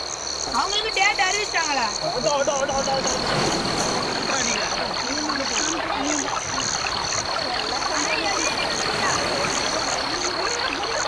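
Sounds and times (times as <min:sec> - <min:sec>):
steady rushing hiss: 0:00.0 - 0:11.0
high pulsing chirping: 0:00.3 - 0:11.0.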